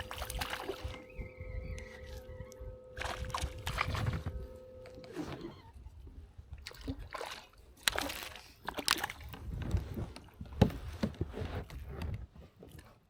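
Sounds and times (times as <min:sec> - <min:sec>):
water sloshing and splashing: 0:00.0 - 0:12.9.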